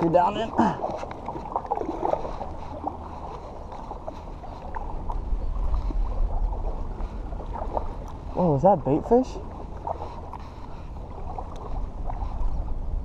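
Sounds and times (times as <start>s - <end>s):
paddle splashing in water: 0.0s - 12.8s
water lapping along hull: 0.0s - 13.0s.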